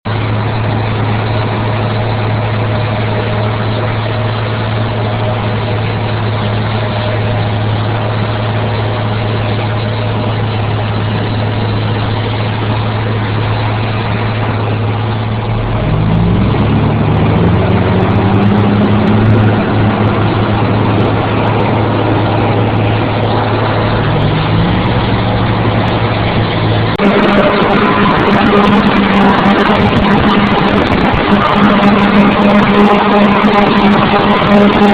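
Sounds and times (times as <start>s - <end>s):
heavy farm machinery engine: 0.0s - 34.9s.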